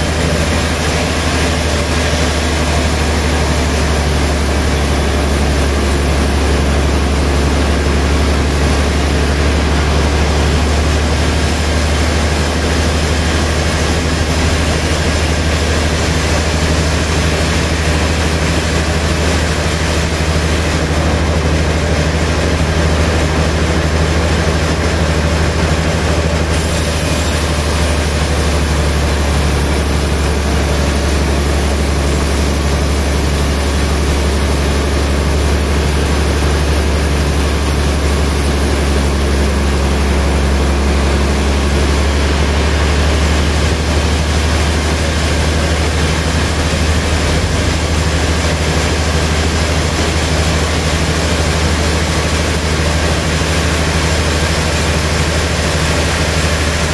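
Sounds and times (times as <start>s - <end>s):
band saw droning: 0.0s - 56.9s.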